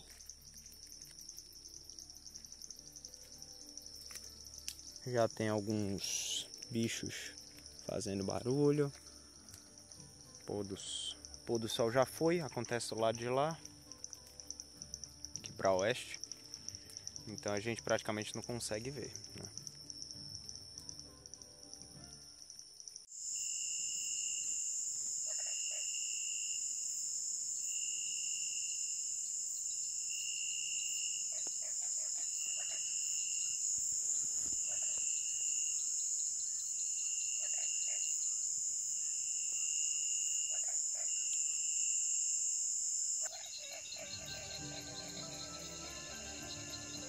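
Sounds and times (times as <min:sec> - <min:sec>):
insects shrill trill: 0:00.0 - 0:47.0
lower pulsing insect call: 0:00.0 - 0:47.0.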